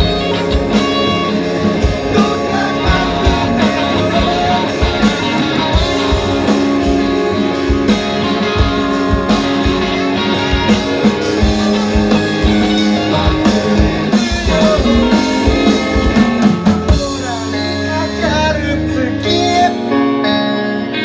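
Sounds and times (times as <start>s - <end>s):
drum beat: 0.0s - 17.5s
bass: 0.0s - 21.0s
electric guitar chords: 0.0s - 21.0s.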